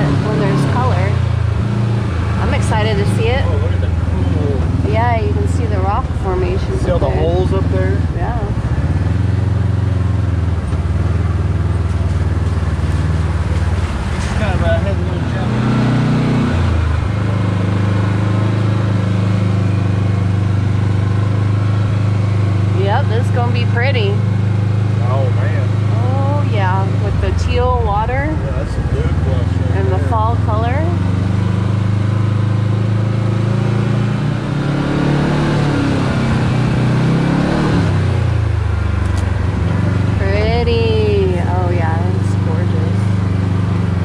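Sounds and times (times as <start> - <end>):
vehicle engine running: 0.0 - 44.0.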